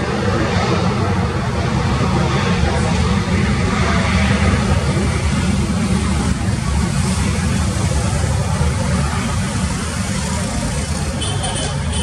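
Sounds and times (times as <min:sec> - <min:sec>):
jet engines idling: 0:00.0 - 0:12.0.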